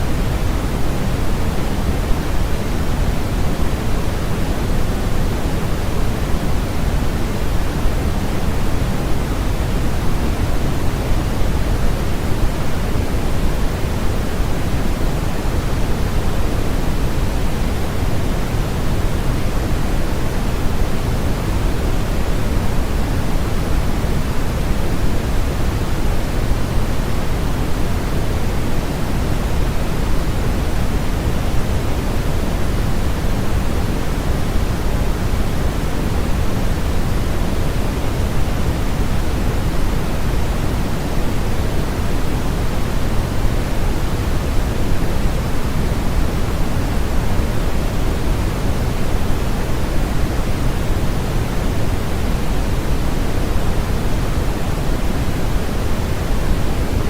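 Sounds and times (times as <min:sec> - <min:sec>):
deep white noise: 0:00.0 - 0:57.0.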